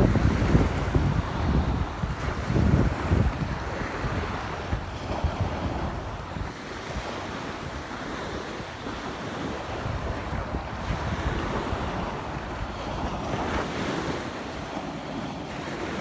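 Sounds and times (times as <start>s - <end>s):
surf washing: 0.0s - 16.0s
wind buffeting microphone: 0.0s - 16.0s.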